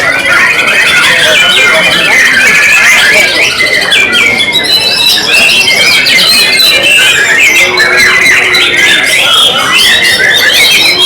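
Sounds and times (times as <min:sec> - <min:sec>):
birds singing whistles and trills: 0:00.0 - 0:11.0.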